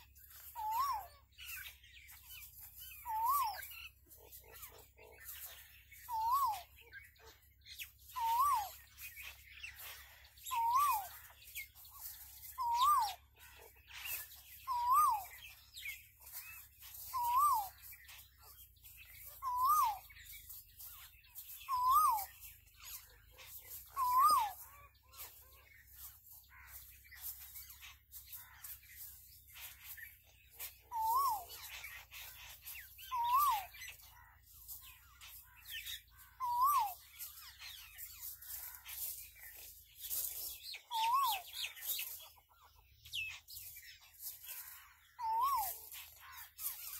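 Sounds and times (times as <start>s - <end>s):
faint high chirping: 0.0s - 46.9s.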